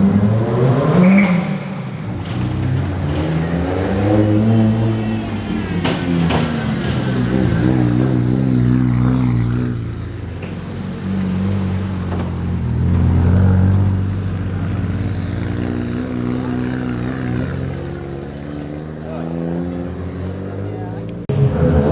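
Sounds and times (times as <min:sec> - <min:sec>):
car exhaust rumble: 0:00.0 - 0:21.3.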